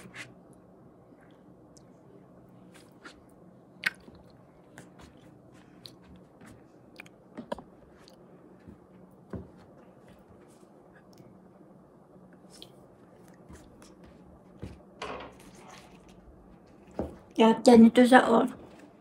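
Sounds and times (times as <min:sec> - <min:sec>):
faint room hum: 0:00.0 - 0:19.0.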